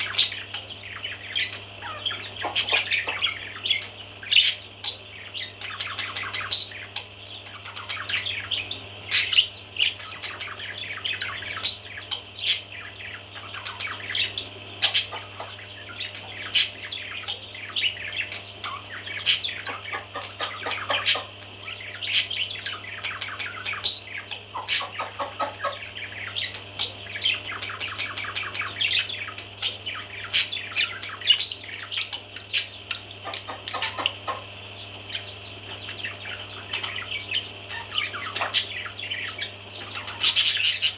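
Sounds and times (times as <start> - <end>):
baby parrots chirping: 0.0 - 40.9
steady low hum: 0.0 - 40.9.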